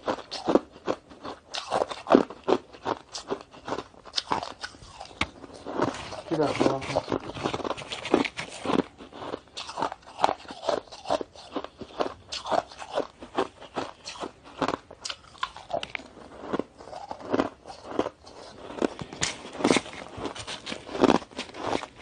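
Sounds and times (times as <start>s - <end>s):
shaved ice being chewed: 0.0s - 22.0s.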